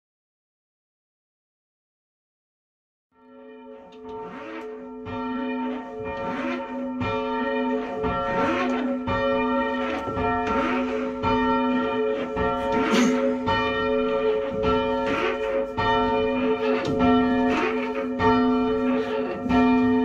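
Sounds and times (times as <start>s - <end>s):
church bell ringing: 3.2s - 20.0s.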